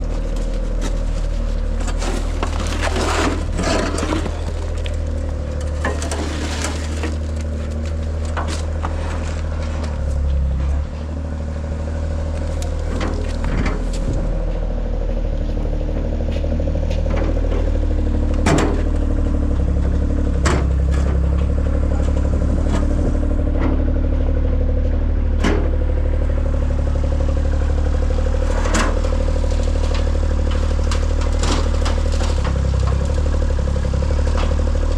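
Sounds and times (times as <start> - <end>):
knocks clanks and scrapes: 0.0 - 15.2, 16.2 - 24.1, 24.7 - 34.9
machine engine droning: 0.0 - 34.9.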